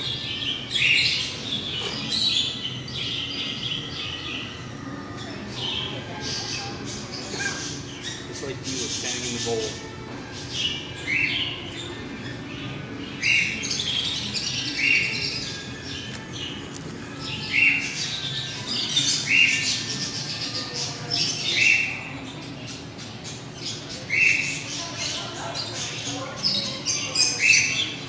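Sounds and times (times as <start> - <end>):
birds chattering: 0.0 - 28.0.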